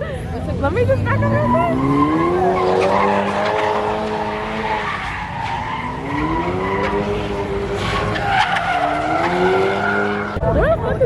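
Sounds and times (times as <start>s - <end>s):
car engine revving: 0.0s - 10.5s
car tyres squealing: 0.4s - 10.5s.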